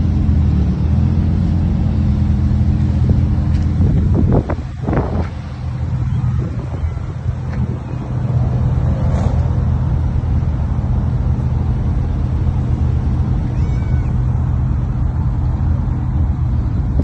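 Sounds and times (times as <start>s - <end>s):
sports car engines droning: 0.0s - 17.0s.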